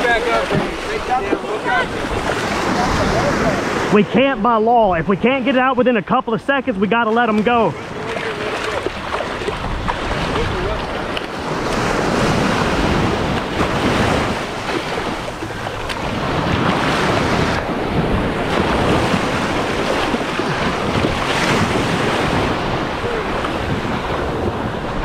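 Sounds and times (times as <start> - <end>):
wind buffeting microphone: 0.0 - 4.1, 7.5 - 25.0
surf washing and foaming: 0.0 - 25.0.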